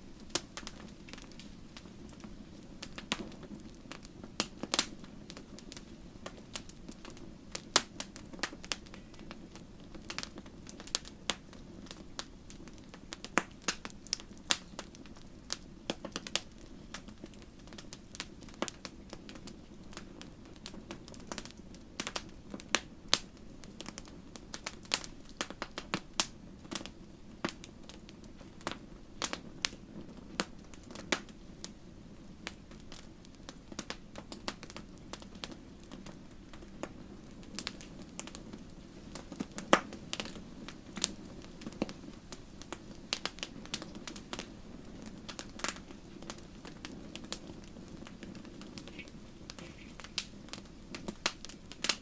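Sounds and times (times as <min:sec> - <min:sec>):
campfire crackling and popping: 0:00.0 - 0:52.0
low rush of burning: 0:00.0 - 0:52.0.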